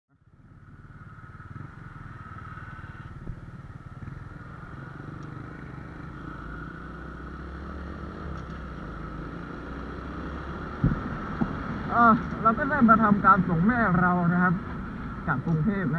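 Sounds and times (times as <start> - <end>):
motorcycle engine running: 0.1 - 15.9.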